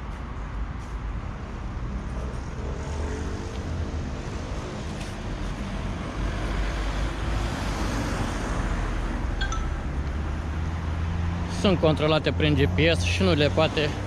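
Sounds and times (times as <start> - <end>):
passing cars rumbling: 1.6 - 14.0.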